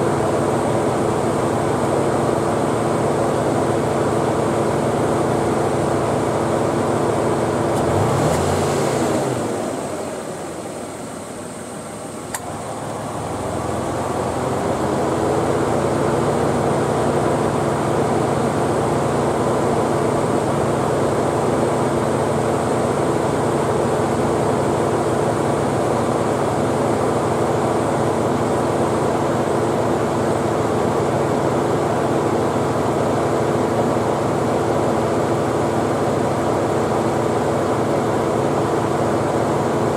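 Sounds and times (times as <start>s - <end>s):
air conditioning compressor running: 0.0s - 39.9s.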